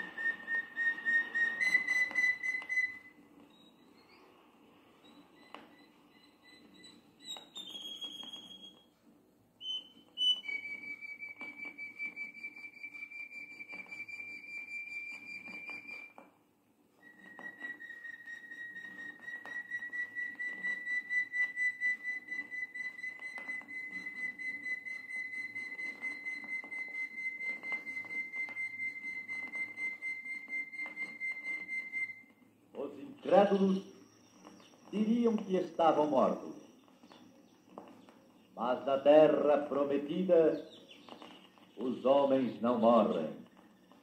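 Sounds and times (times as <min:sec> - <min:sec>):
bird whistled calls and trills: 0:00.0 - 0:04.4, 0:05.0 - 0:08.8, 0:09.6 - 0:16.2, 0:17.0 - 0:32.4, 0:33.1 - 0:44.0.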